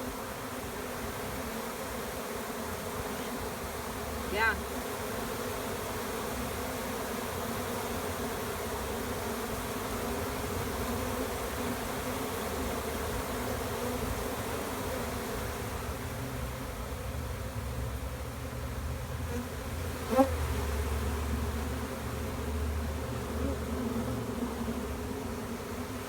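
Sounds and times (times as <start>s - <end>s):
bee swarm buzzing: 0.0s - 26.0s.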